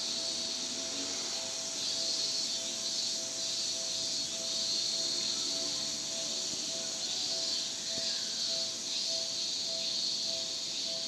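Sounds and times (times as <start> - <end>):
cicadas shrilling: 0.0 - 11.0.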